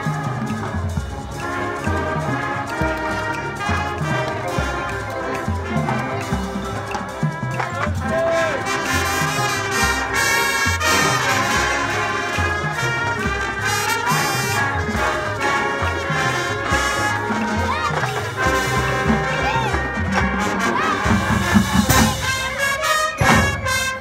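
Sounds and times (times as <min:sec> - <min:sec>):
marching band brass playing: 0:00.0 - 0:24.0.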